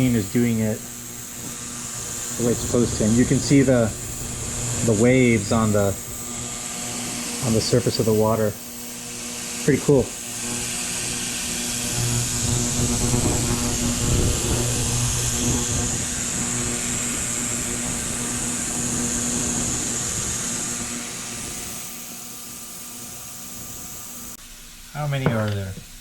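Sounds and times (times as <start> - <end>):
high hiss from water bath: 0.0 - 26.0
ultrasonic cleaner buzzing hum: 0.0 - 26.0.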